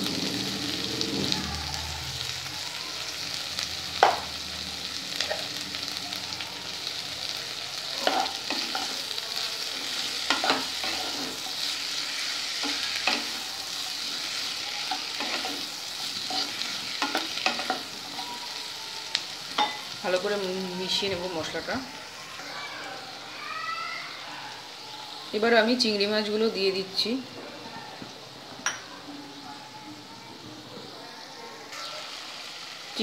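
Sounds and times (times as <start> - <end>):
vegetables sizzling in a pan: 0.0 - 33.0.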